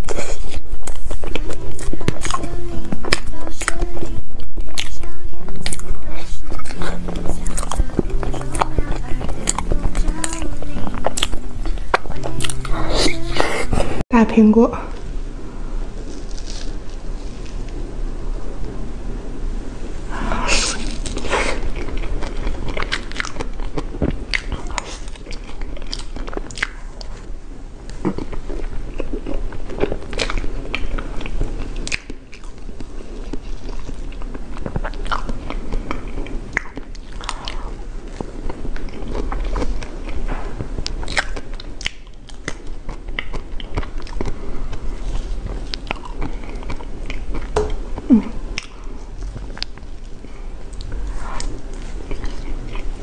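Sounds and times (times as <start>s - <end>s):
biting and chewing: 0.0s - 14.0s, 15.8s - 18.0s, 20.4s - 53.0s
wet mouth sounds: 0.0s - 14.0s, 20.1s - 27.3s, 27.9s - 53.0s.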